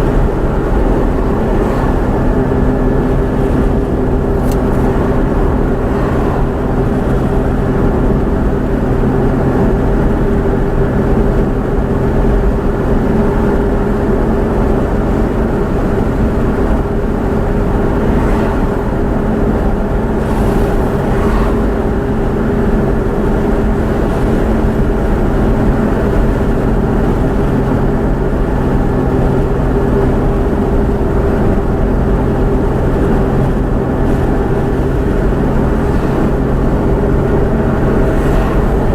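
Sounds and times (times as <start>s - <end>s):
motor vehicle drone: 0.0s - 38.9s.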